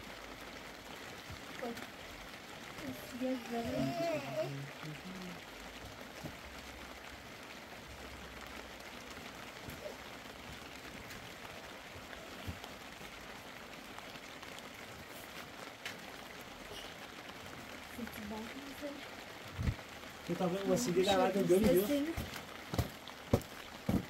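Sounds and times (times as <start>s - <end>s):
light rain hissing: 0.0s - 24.0s.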